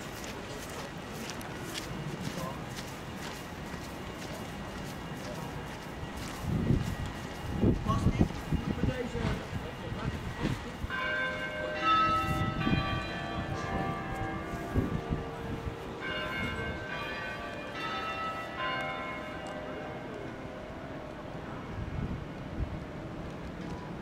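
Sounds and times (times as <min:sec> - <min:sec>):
clock tower bells ringing a tune: 0:00.6 - 0:21.8.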